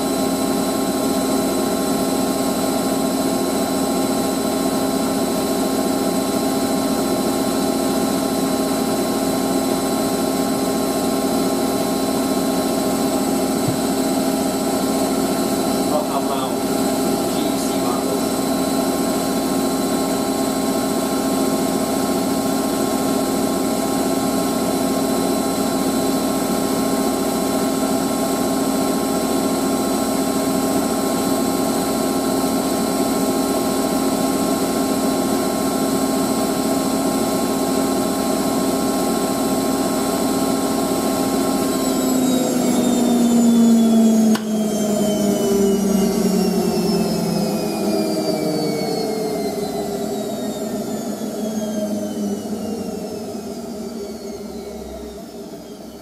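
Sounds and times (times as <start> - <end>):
washing machine motor whine: 0.0 - 56.0.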